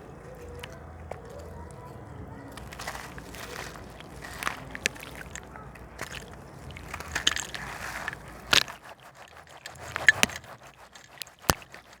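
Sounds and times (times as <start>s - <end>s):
crackles and small snaps: 0.3s - 12.0s.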